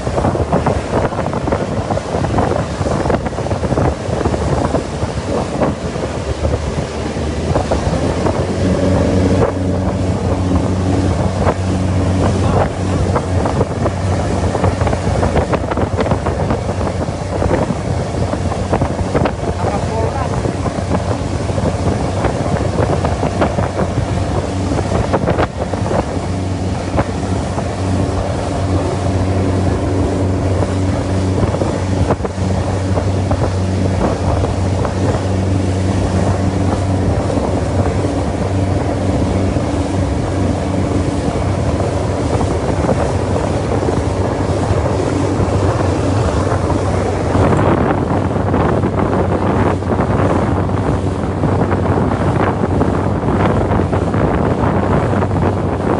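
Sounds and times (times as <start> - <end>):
boat engine droning: 0.0 - 55.9
wind buffeting microphone: 0.0 - 55.9.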